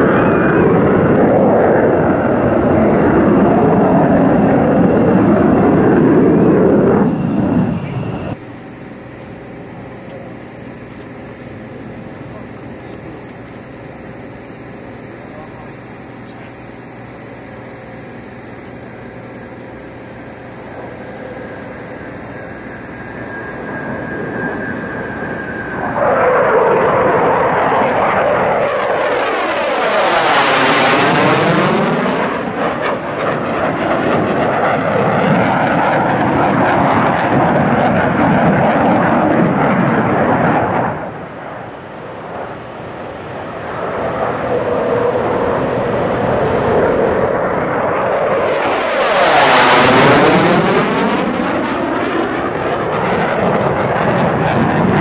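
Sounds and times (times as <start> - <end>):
jet flying past: 0.0 - 55.0.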